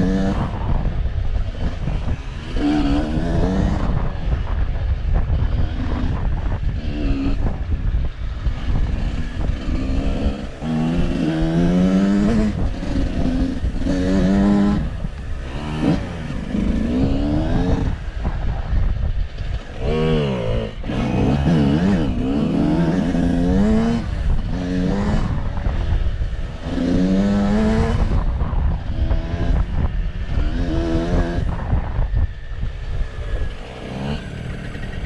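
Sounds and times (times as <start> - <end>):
low rumble of riding: 0.0 - 35.0
off-road engine revving: 0.0 - 35.0.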